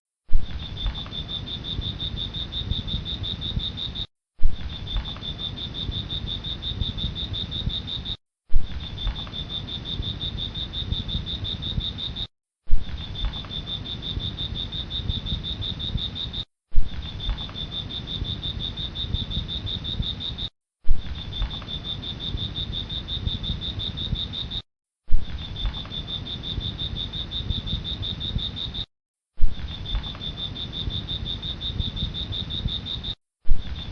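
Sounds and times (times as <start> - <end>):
crickets chirring: 0.4 - 24.6, 25.2 - 28.9, 29.5 - 33.9.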